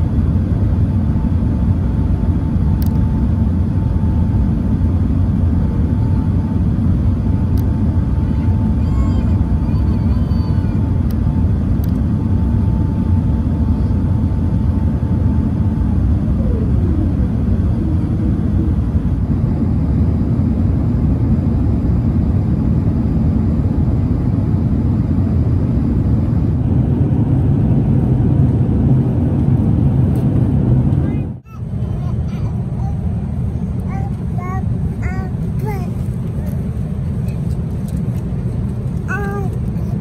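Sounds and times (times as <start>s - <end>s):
aircraft cabin engine roar: 0.0s - 40.0s.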